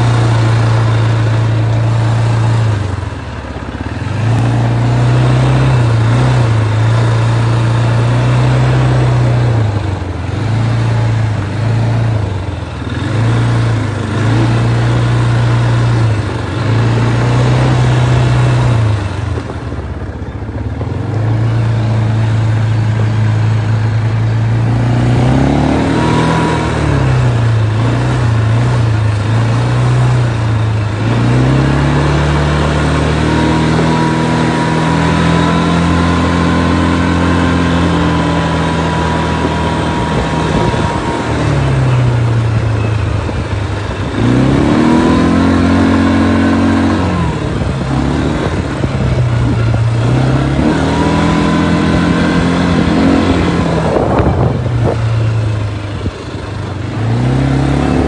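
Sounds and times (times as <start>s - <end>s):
small motorbike engine revving: 0.0s - 19.7s, 20.7s - 58.0s
wind and road noise: 0.0s - 58.0s.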